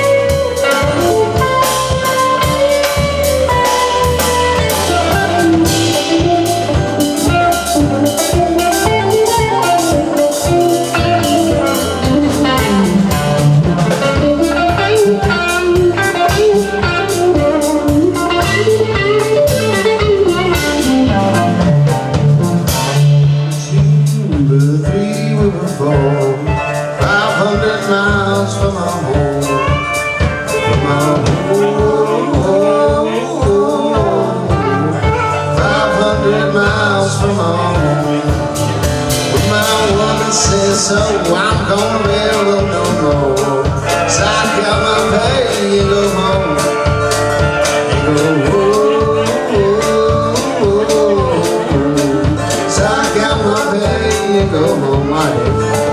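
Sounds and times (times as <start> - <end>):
country blues band playing: 0.0 - 55.9.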